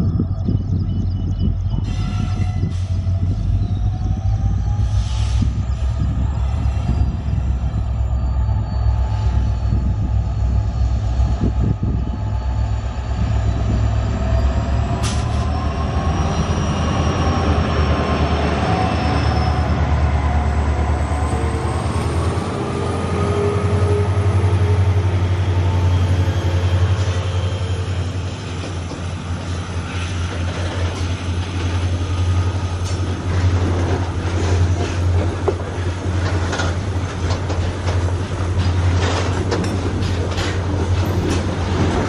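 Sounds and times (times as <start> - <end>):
diesel locomotive engines droning: 0.0 - 42.0.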